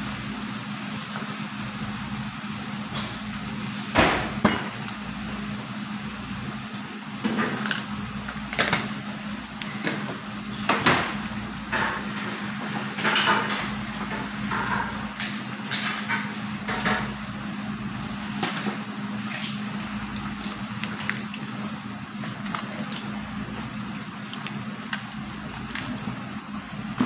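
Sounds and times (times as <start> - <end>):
chicken and onion sizzling: 0.0 - 27.0.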